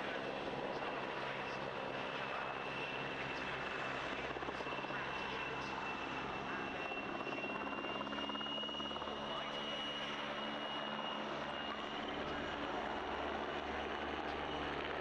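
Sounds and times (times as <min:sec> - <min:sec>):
helicopter flying: 0:00.0 - 0:15.0.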